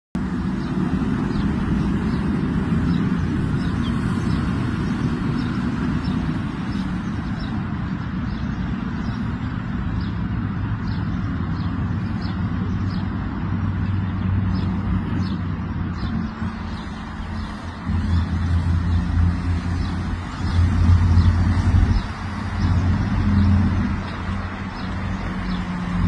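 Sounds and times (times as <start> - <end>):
road traffic hum: 0.2 - 26.0.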